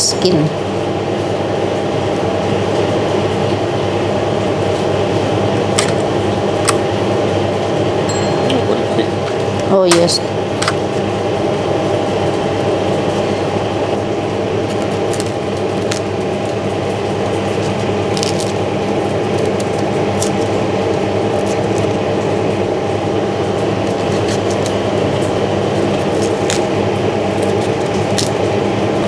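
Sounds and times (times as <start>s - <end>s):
steady mechanical hum: 0.0s - 29.0s.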